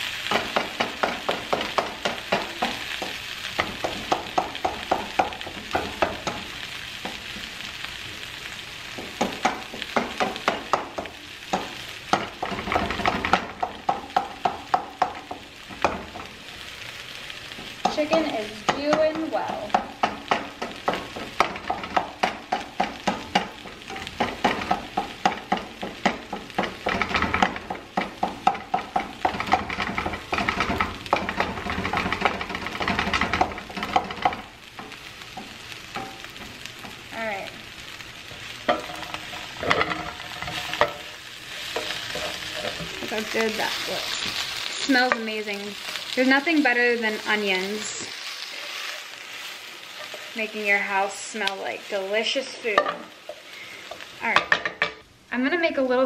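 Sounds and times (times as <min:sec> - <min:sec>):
spatula scraping a pan: 0:00.0 - 0:55.0
chicken sizzling in a pan: 0:00.0 - 0:56.0.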